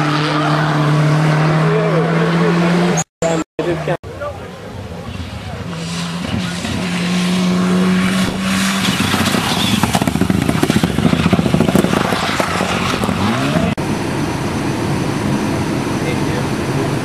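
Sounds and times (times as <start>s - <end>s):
rally car engine revving: 0.0s - 3.4s, 4.8s - 17.0s.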